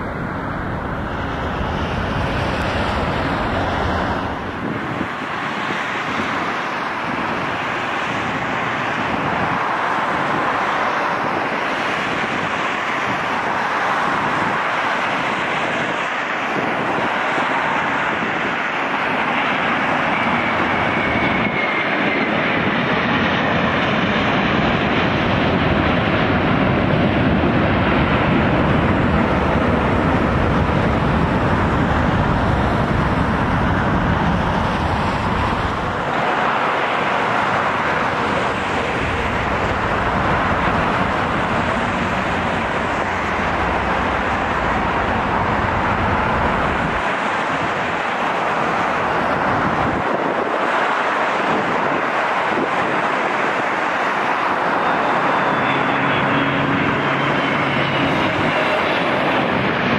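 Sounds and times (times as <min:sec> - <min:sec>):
jet engines rushing with whine: 0:00.0 - 0:59.9.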